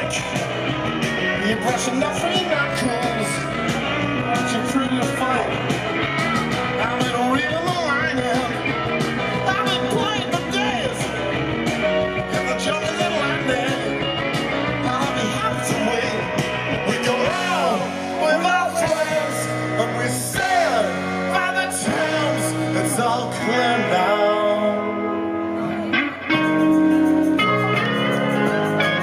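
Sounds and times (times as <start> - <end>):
man singing: 0.0 - 0.5, 1.2 - 5.7, 6.6 - 11.3, 12.2 - 25.8
drums: 0.0 - 29.0
electric guitars: 0.0 - 29.0.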